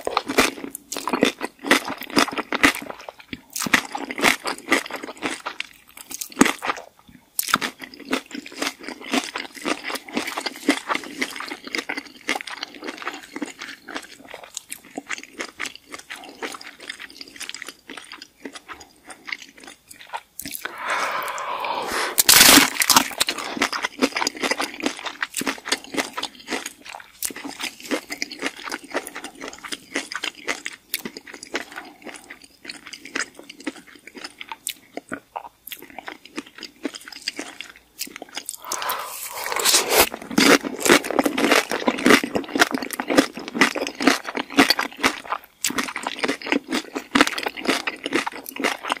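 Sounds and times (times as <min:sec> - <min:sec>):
crunchy taco shells being chewed: 0:00.0 - 0:21.4, 0:22.2 - 0:49.0.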